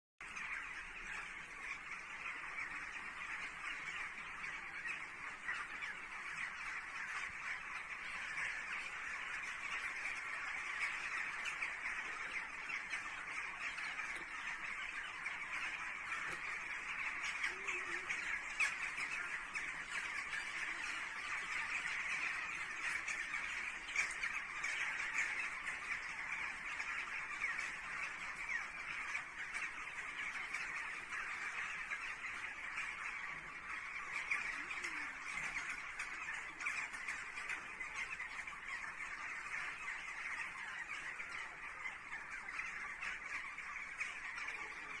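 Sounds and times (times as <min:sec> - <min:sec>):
flock of birds calling: 0:00.2 - 0:45.0.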